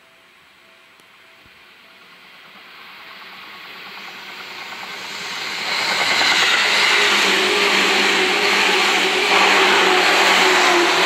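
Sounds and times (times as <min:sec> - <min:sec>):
electric train passing at speed: 0:00.0 - 0:11.0.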